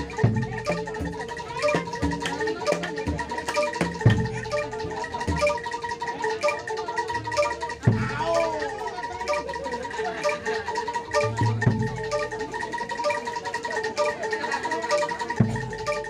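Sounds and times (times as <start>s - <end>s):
metal-keyed mallet instruments: 0.0s - 16.0s.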